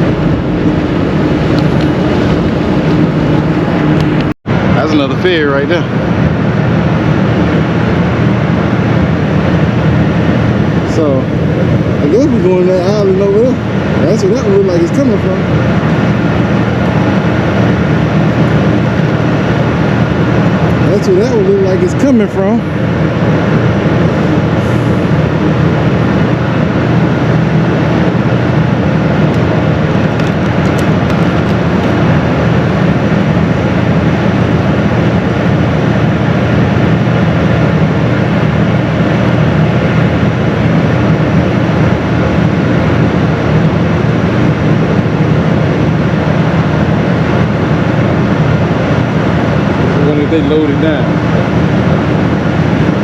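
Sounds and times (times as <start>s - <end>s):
ferry engine rumble: 0.0s - 53.0s.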